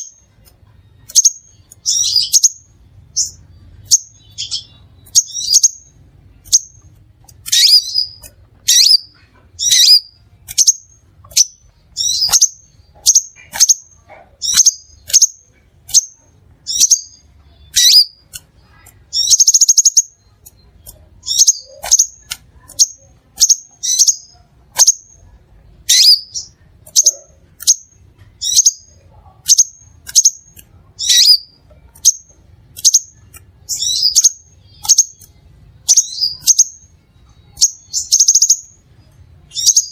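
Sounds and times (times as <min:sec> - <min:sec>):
bird chirping: 0:00.0 - 0:39.9
buzzy bird trill: 0:00.0 - 0:39.9.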